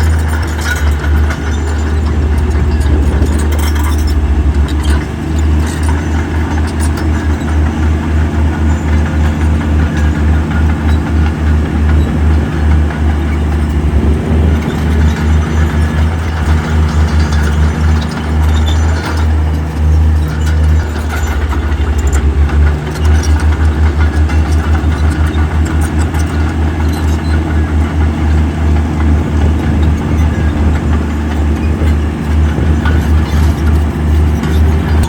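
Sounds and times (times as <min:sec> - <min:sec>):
heavy diesel engine rumbling: 0:00.0 - 0:35.0
metallic clanks: 0:00.0 - 0:35.0.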